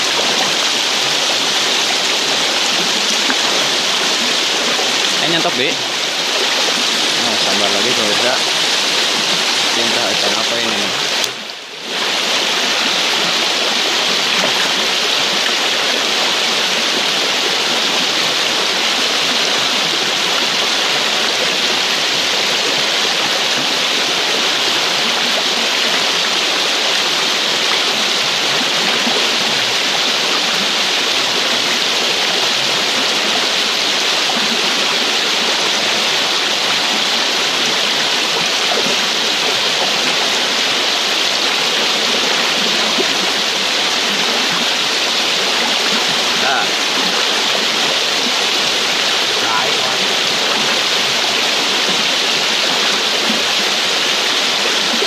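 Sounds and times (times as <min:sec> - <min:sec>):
river water rushing over stones: 0:00.0 - 0:55.0.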